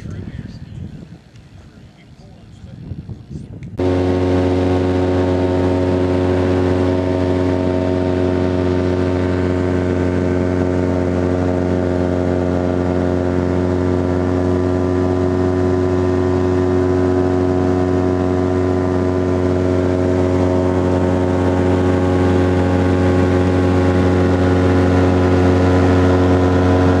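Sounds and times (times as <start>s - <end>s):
light aircraft engine and propeller: 0.0s - 27.0s.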